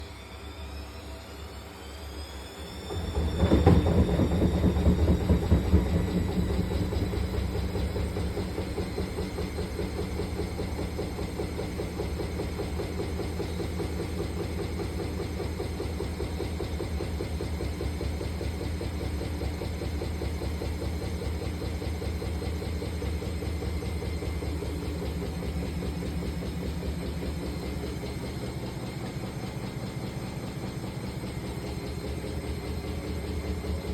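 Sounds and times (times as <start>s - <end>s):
washing machine spinning: 0.2s - 33.9s.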